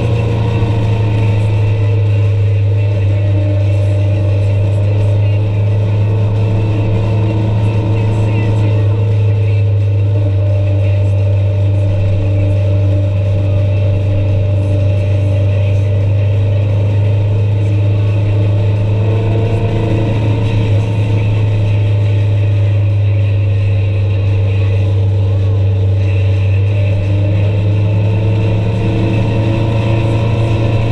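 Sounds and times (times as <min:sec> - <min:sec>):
vehicle engine droning: 0:00.0 - 0:30.9.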